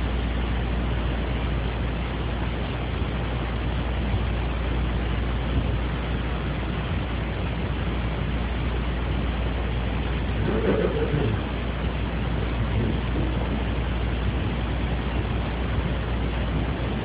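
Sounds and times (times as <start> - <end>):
steady hiss with low hum: 0.0 - 17.0.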